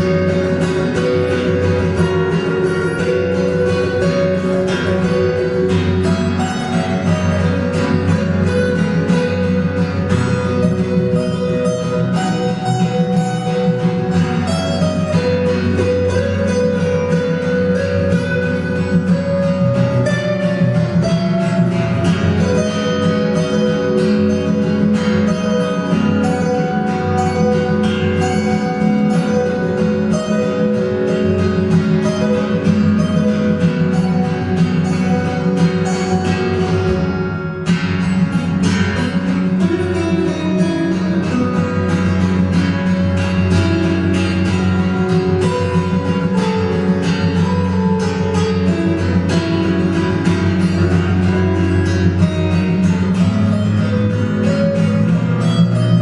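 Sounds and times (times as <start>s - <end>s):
plucked acoustic guitar: 0.0s - 56.0s
steady bass line: 0.0s - 56.0s.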